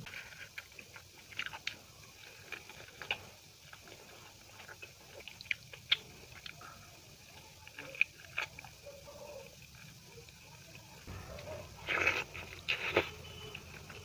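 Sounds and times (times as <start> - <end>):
chewing and lip smacks: 0.0 - 14.0.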